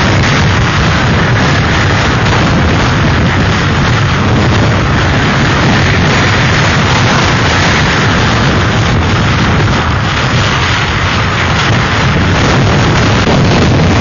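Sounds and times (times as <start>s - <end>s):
deep low rumble: 0.0s - 14.0s
driving rain: 0.0s - 14.0s
wind battering microphone: 0.0s - 14.0s.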